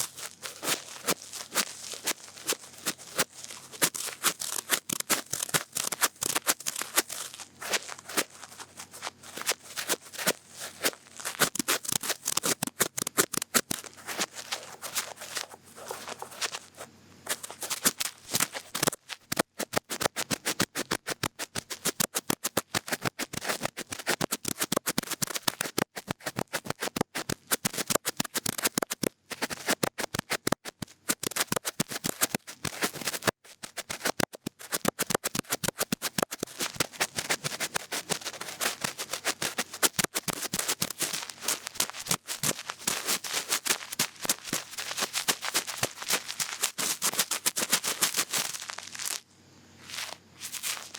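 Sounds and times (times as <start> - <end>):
cotton bud scratching in ear: 0.0 - 49.2, 49.8 - 50.9.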